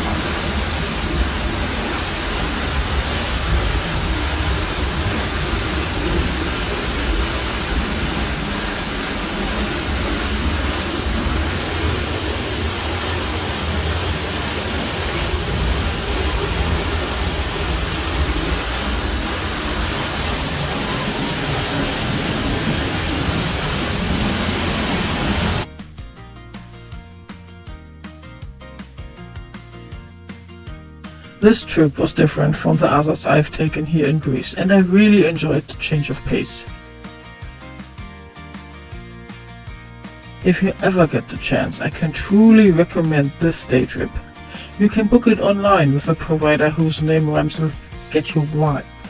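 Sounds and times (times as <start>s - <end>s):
waterfall rushing: 0.0s - 25.7s, 31.4s - 36.7s, 40.5s - 48.8s.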